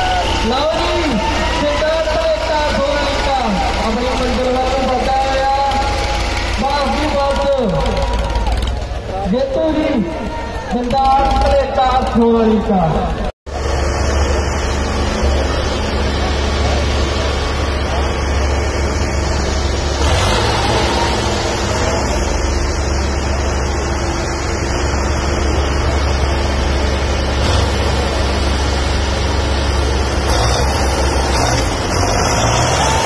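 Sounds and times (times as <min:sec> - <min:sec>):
diesel tractor engines under load: 0:00.0 - 0:33.0.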